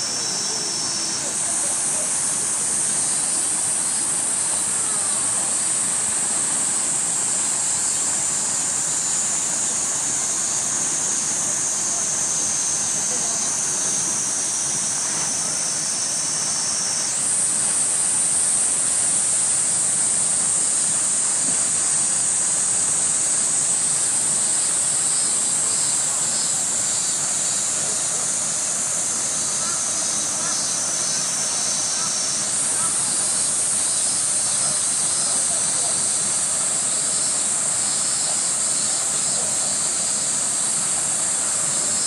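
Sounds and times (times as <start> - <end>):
cicada chorus drone: 0.0 - 42.0.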